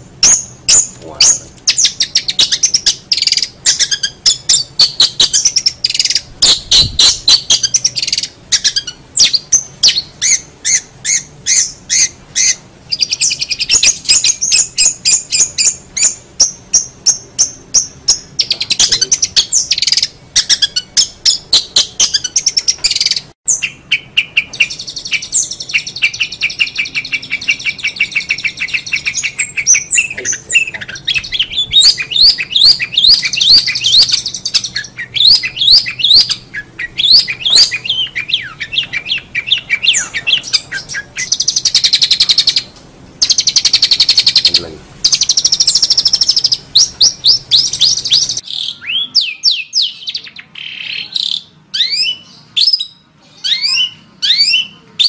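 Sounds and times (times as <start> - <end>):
bird singing trills and whistles: 0.0 - 55.0.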